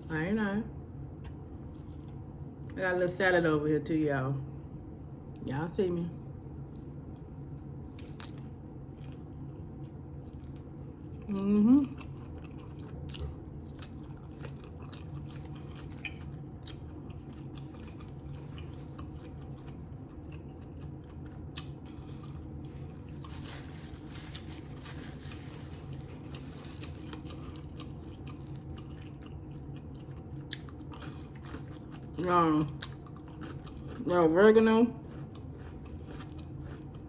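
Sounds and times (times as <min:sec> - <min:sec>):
low hum: 0:00.0 - 0:37.0
person chewing food: 0:01.2 - 0:02.3, 0:06.5 - 0:34.2, 0:35.0 - 0:37.0.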